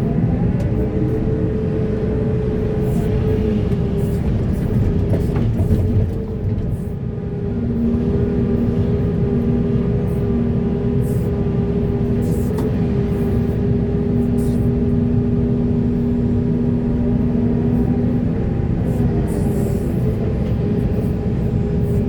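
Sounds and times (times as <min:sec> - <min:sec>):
heavy diesel engine drone: 0:00.0 - 0:22.0.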